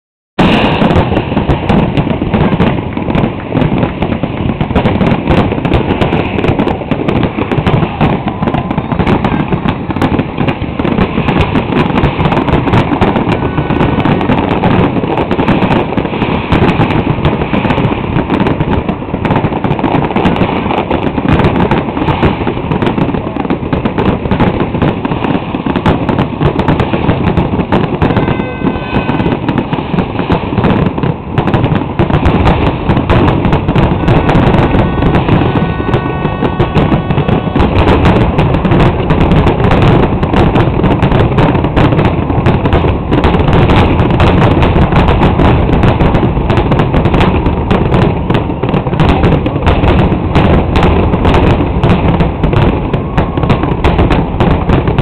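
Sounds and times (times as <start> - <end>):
fireworks bursting: 0.4 - 55.0.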